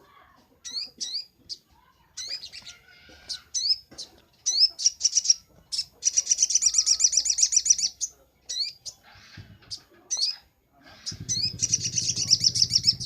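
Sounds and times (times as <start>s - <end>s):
bird high sharp chirps: 0.6s - 13.0s.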